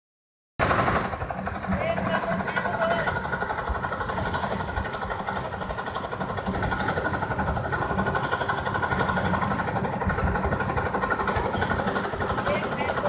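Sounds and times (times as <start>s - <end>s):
engine idling: 0.6s - 13.0s.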